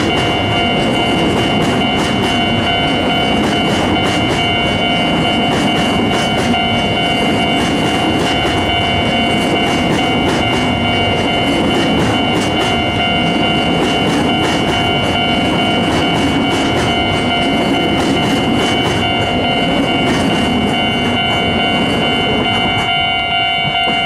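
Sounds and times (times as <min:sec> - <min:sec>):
train wheels clicking over rail joints: 0:00.0 - 0:23.0
low train rumble: 0:00.0 - 0:24.0
steady high ringing tone: 0:00.0 - 0:24.0.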